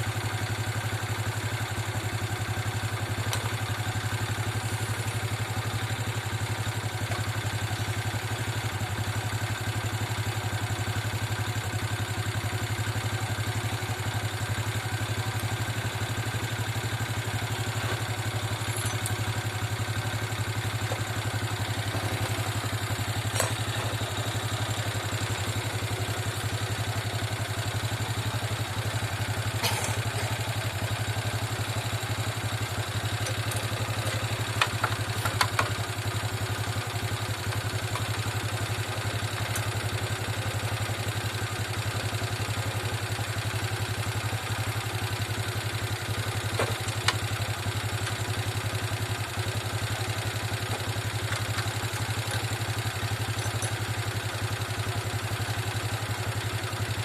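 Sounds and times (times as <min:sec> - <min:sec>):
small engine idling: 0:00.0 - 0:57.0.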